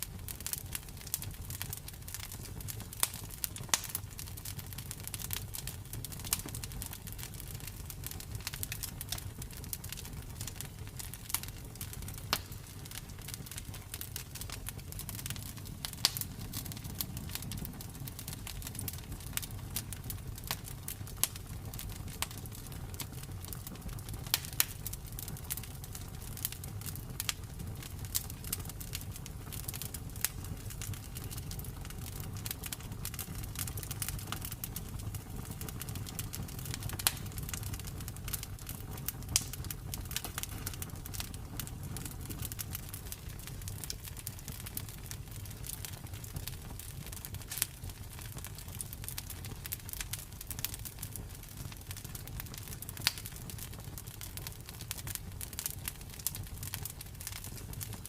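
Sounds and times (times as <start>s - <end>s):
campfire crackling and popping: 0.0s - 58.0s
low rumble of flames: 0.0s - 58.0s.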